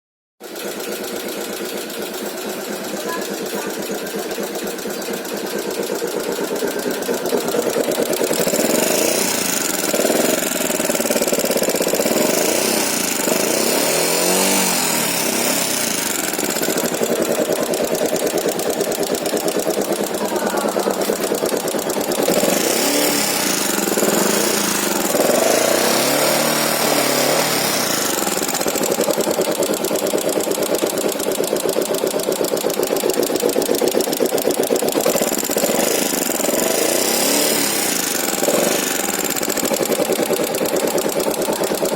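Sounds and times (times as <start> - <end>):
motorcycle engine revving: 0.4 - 41.9
strange noise from engine: 0.4 - 41.9.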